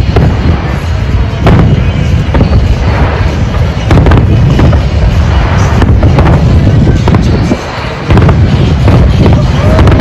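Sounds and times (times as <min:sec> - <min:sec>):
fireworks booming: 0:00.0 - 0:10.0
sharp firework bangs: 0:00.0 - 0:10.0.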